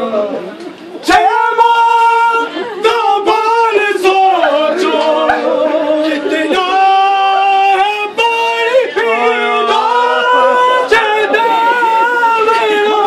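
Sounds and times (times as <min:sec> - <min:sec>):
mourners chanting lament: 0:01.0 - 0:13.0.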